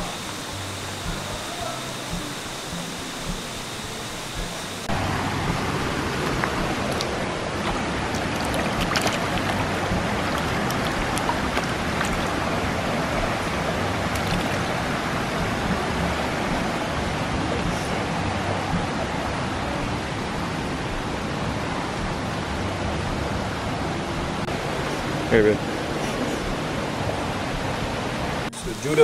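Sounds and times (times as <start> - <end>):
river water rushing over rocks: 4.9 - 29.0.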